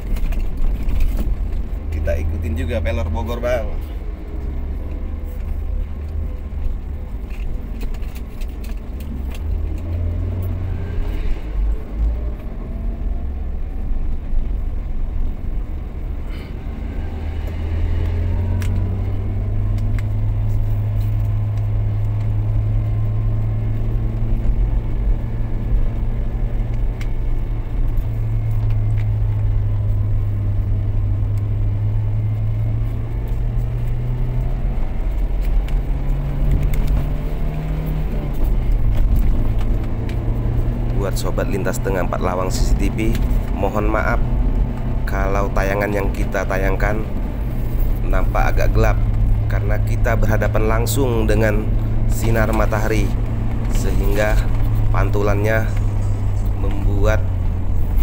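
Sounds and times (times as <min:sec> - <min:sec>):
car engine hum: 0:00.0 - 0:58.0
road noise inside car: 0:00.0 - 0:58.0.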